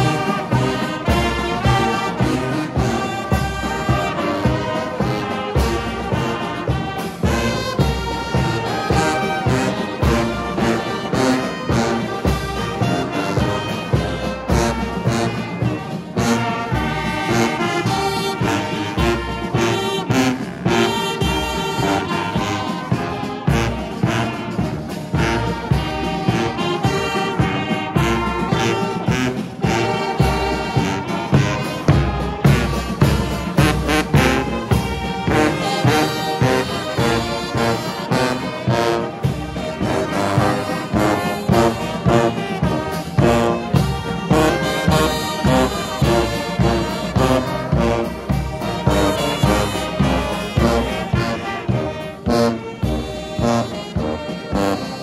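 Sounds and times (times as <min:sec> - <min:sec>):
brass playing a tune: 0:00.0 - 0:55.0.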